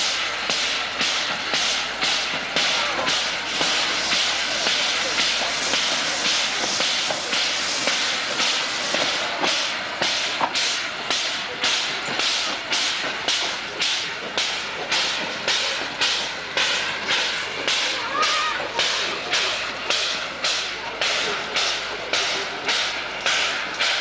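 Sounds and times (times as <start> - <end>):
steam hissing: 0.0 - 24.0
steam locomotive chuffing: 0.0 - 24.0.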